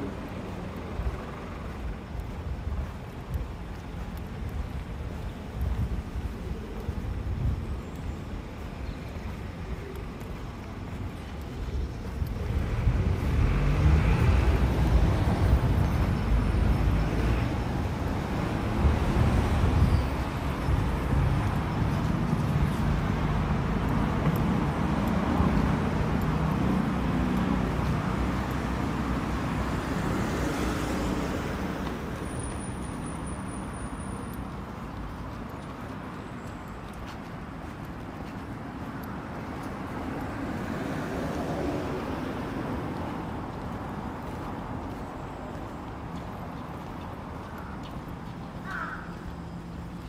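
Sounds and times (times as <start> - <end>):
motor vehicle low rumble: 0.0 - 50.0.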